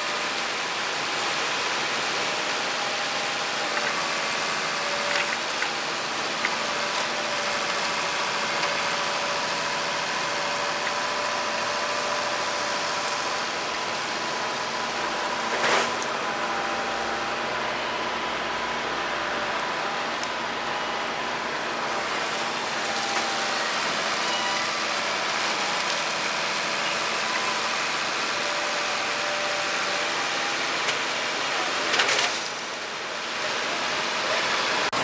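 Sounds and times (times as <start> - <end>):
grinder machine drone: 0.0 - 35.0.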